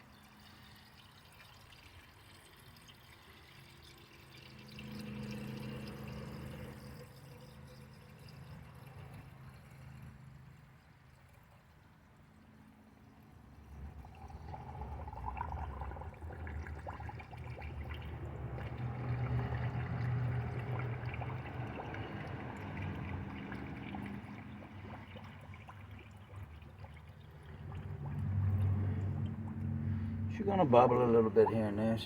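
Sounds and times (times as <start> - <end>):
liquid pouring into radiator: 0.0 - 32.0
low gurgle: 0.0 - 32.0.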